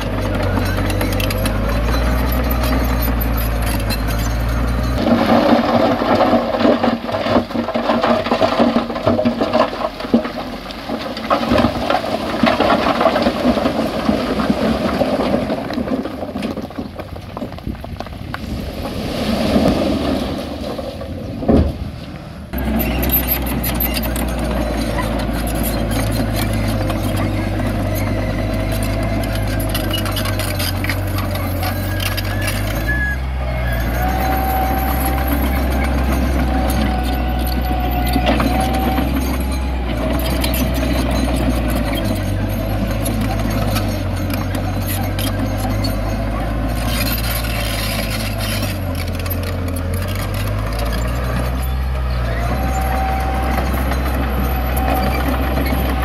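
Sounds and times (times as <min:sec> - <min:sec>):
clanking and rattling: 0:00.0 - 0:18.2, 0:22.5 - 0:56.0
diesel engines running: 0:00.0 - 0:56.0.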